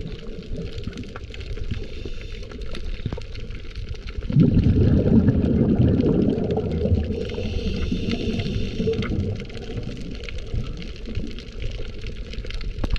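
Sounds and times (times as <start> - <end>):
faint underwater clicks: 0.0 - 12.9
underwater gurgling and bubbles: 0.0 - 12.9.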